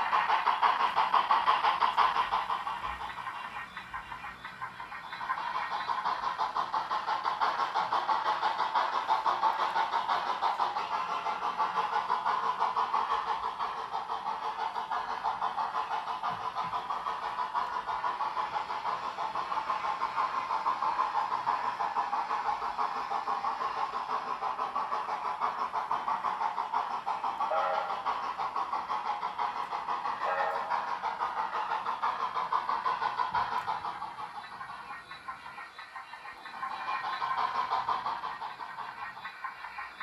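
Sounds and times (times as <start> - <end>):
model steam locomotive chuffing: 0.0 - 40.0.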